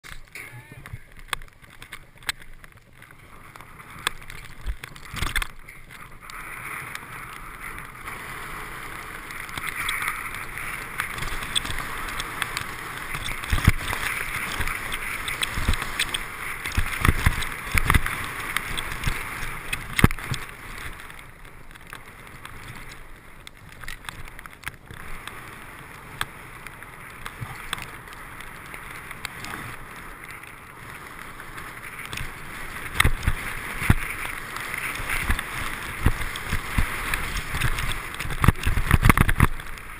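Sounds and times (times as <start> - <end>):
skis hissing through snow: 5.0 - 23.4, 25.0 - 39.9.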